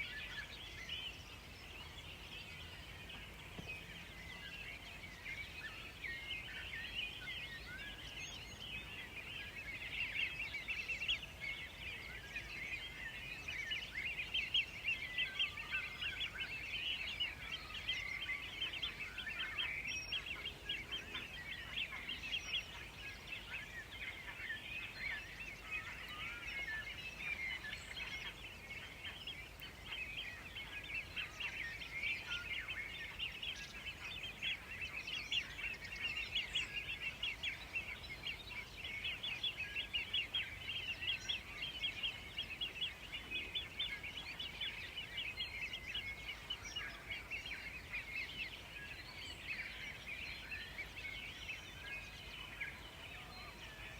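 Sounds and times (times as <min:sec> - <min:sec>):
faint background hiss: 0:00.0 - 0:53.9
small birds chirping: 0:00.0 - 0:53.9.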